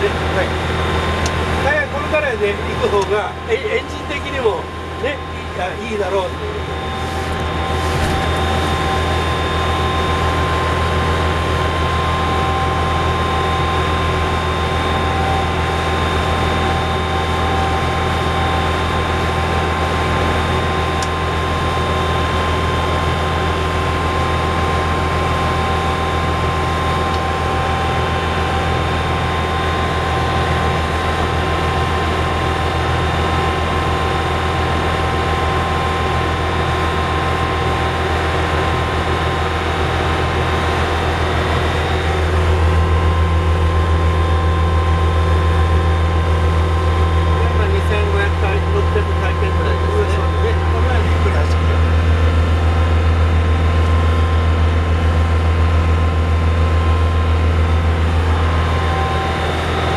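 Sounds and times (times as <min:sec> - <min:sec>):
boat diesel engine droning: 0:00.0 - 0:59.9
steady whine: 0:00.0 - 0:59.9.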